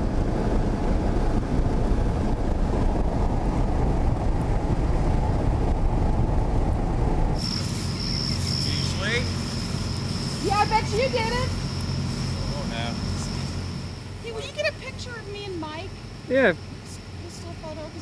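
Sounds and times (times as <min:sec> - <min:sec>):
car cabin road rumble: 0:00.0 - 0:16.0
low hum: 0:00.0 - 0:17.9.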